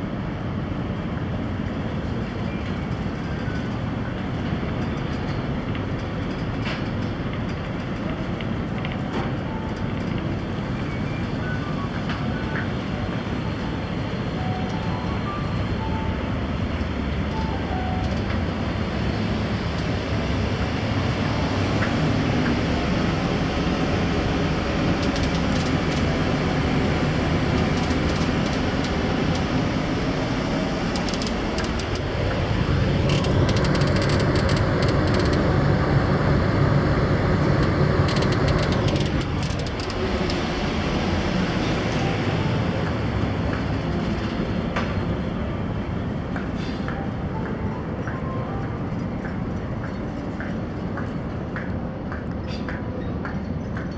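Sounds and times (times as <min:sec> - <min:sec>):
ship engines droning: 0:08.4 - 0:53.9.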